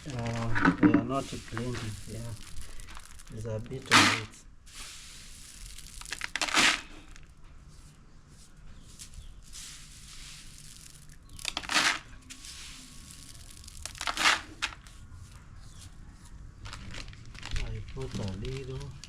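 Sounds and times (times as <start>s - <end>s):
maize crinkling and rustling: 0.0s - 19.0s.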